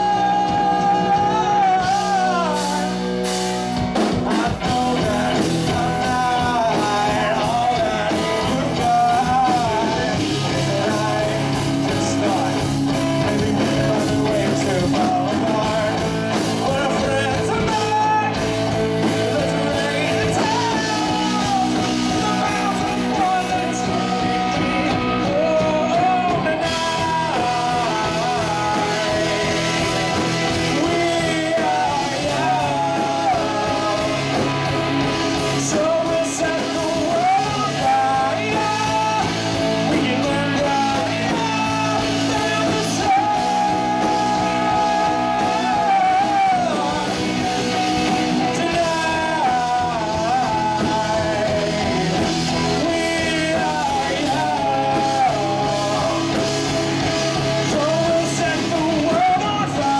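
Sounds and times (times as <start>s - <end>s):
drums at a steady beat: 0.0s - 59.9s
guitar: 0.0s - 59.9s
person singing: 0.0s - 59.9s.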